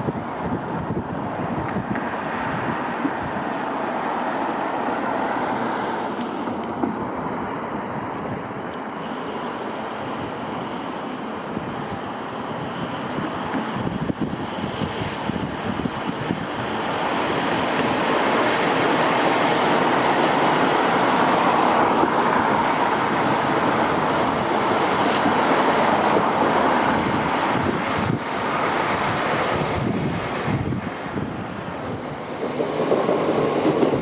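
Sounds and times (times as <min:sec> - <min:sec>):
wind buffeting microphone: 0:00.0 - 0:03.7, 0:05.5 - 0:08.8, 0:11.5 - 0:34.0
electric train rolling: 0:00.0 - 0:34.0.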